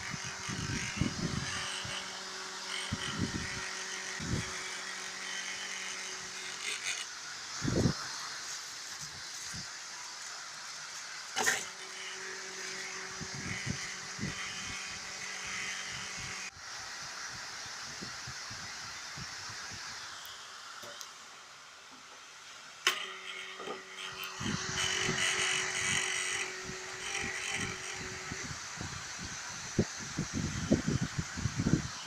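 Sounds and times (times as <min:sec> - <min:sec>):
blower fan humming: 0:00.0 - 0:17.3, 0:22.9 - 0:32.0
fan buzzing and crackling: 0:00.0 - 0:21.3, 0:22.0 - 0:32.0.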